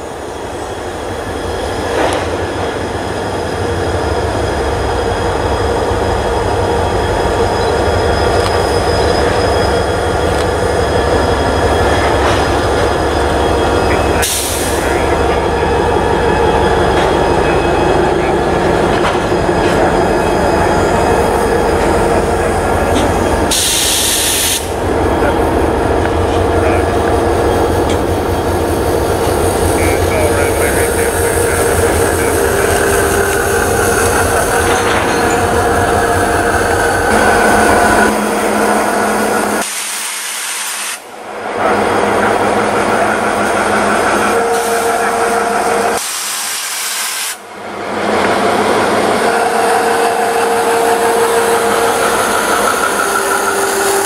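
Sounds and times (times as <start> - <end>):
diesel locomotive engine drone: 0.0 - 54.0
wheels rumbling on rail: 0.0 - 54.0.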